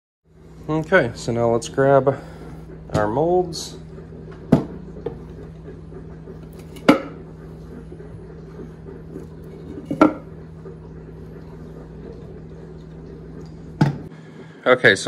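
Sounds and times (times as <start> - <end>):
steady low hum: 0.3 - 15.0.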